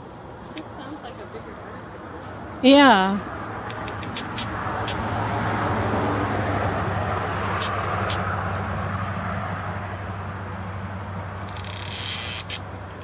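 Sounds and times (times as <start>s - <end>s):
raspy clicking from trees: 0.0s - 2.6s, 3.6s - 13.0s.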